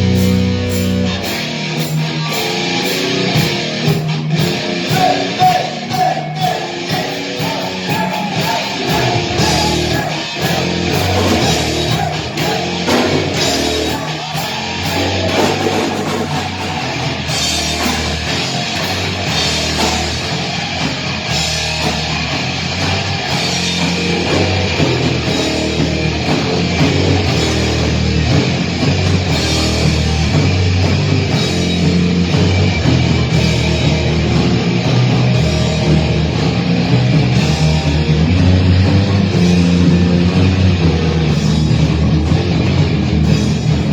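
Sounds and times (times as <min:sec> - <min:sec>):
bass guitar: 0:00.0 - 0:43.9
distorted electric guitars: 0:00.0 - 0:43.9
drum kit with cymbals: 0:00.0 - 0:43.9
heavy metal band playing: 0:00.0 - 0:43.9.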